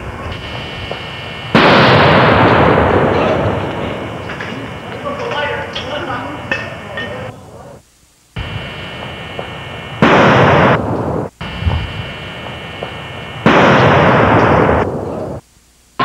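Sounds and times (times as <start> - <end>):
loud firecracker blasts: 0.0 - 5.8, 8.4 - 15.4
steady whine: 0.0 - 16.0.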